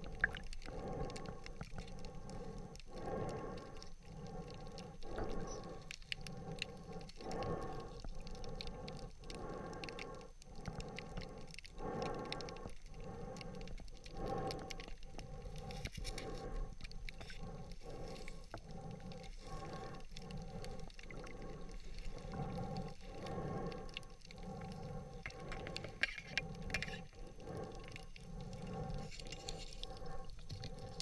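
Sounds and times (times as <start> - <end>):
faint clicks: 0.0 - 31.0.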